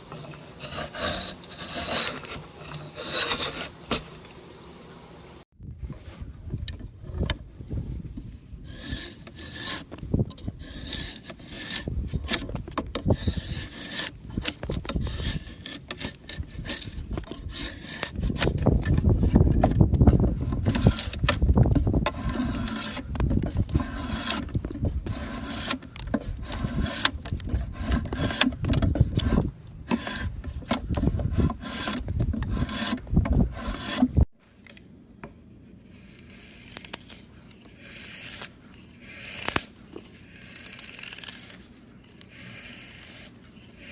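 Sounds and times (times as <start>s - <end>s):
tool scraping and shaving wood: 0.0s - 4.4s, 5.9s - 34.3s, 35.7s - 43.9s.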